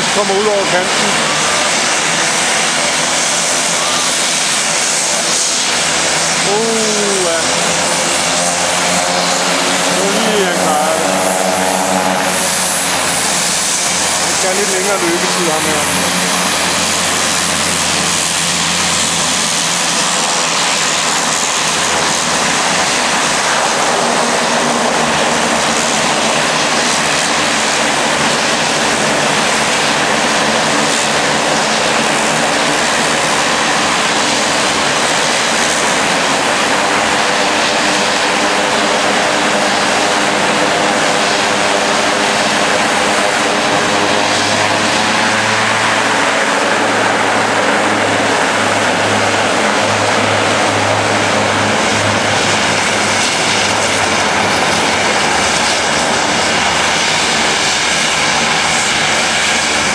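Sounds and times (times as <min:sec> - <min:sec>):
turboprop engines running: 0:00.0 - 0:59.9.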